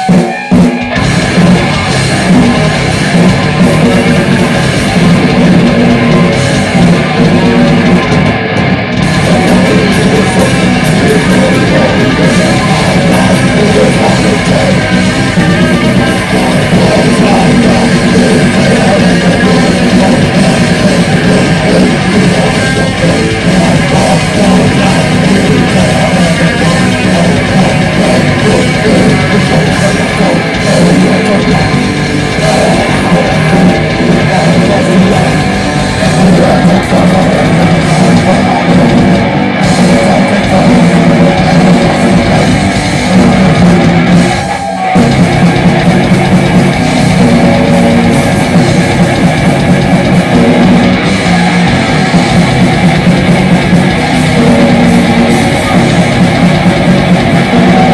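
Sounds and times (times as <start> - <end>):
bass guitar: 0.0 - 57.9
distorted electric guitar: 0.0 - 57.9
drum kit: 0.0 - 57.9.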